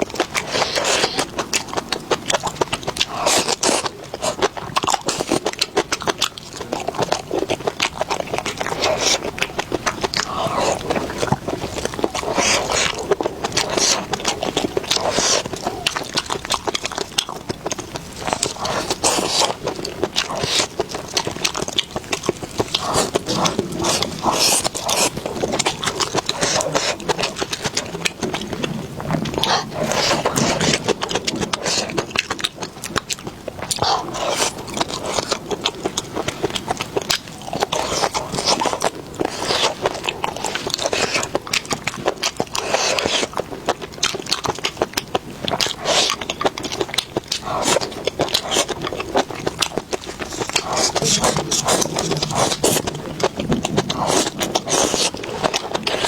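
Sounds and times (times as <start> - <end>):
chewing and biting food: 0.0 - 56.0.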